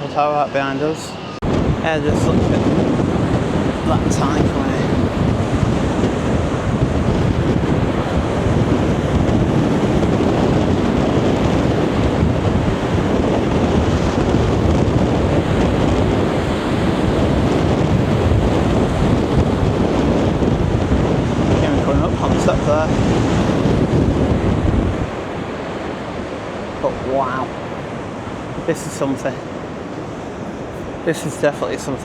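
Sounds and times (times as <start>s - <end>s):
heavy surf rushing: 0.0s - 32.0s
wind buffeting microphone: 0.0s - 32.0s.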